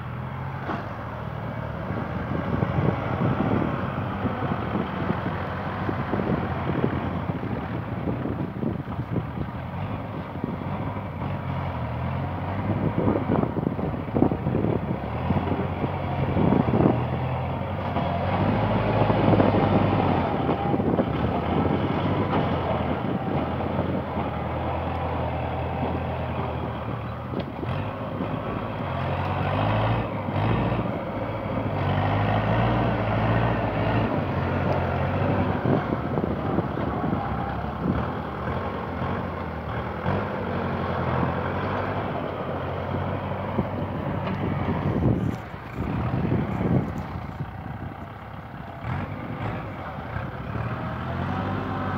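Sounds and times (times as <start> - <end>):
tractor diesel engine under load: 0.0 - 51.9.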